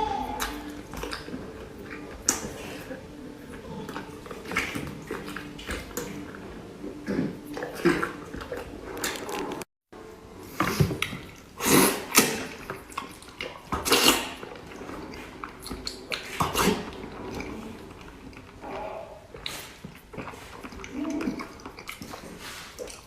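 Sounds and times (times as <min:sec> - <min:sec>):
person chewing and smacking: 0:00.0 - 0:09.7, 0:10.6 - 0:23.0.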